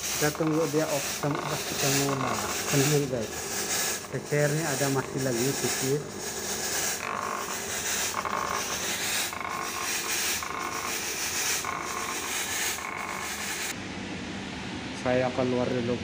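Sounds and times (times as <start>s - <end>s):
fogging machine hissing: 0.0s - 13.9s.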